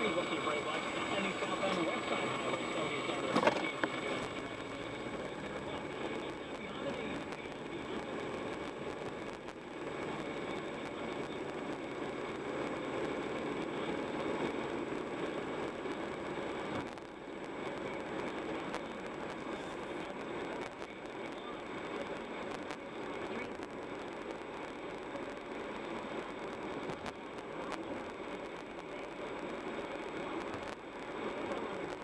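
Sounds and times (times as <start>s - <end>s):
car road and tyre noise: 0.0s - 32.0s.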